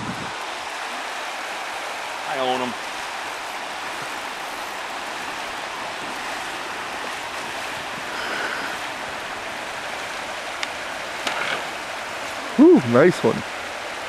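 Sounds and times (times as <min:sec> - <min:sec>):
river water rushing over rapids: 0:00.0 - 0:14.0.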